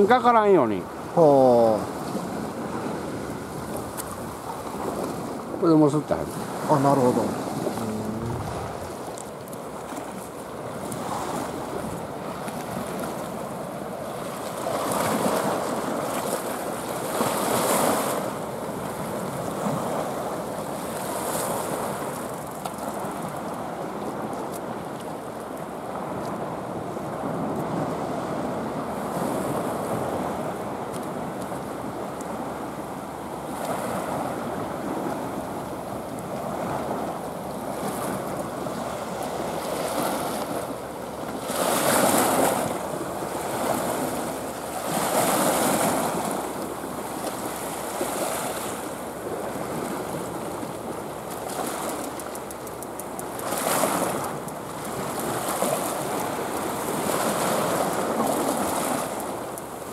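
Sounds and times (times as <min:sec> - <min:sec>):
waves breaking on rocky shore: 0:00.0 - 0:59.9.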